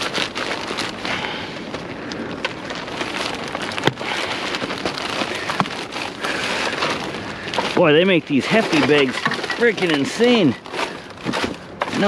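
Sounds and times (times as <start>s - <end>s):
plastic bag tearing and crinkling: 0.0s - 12.0s.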